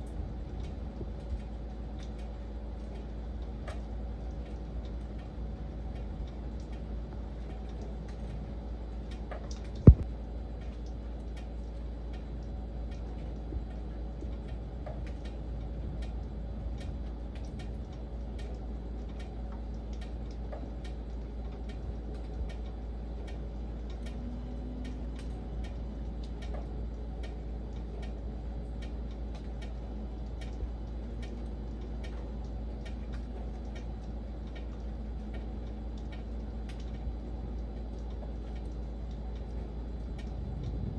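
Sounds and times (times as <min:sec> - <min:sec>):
raindrop ticks: 0:00.0 - 0:40.9
steady rain: 0:00.0 - 0:40.9.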